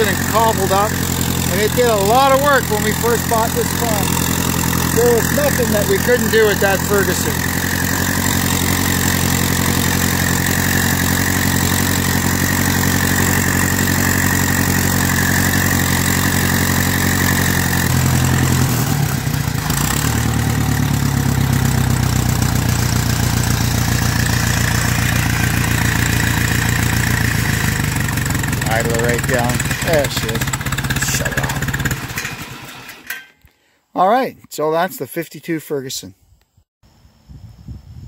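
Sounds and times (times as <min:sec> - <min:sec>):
tractor engine running: 0:00.0 - 0:33.3.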